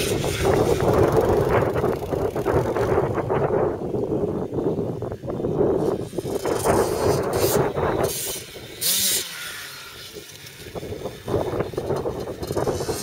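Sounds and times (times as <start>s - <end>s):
dirt bike engine running: 0.0s - 4.4s, 5.4s - 13.0s.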